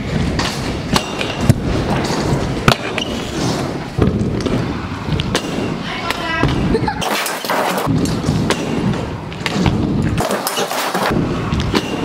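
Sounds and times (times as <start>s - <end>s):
scooter wheels rolling on wood: 0.0s - 12.0s.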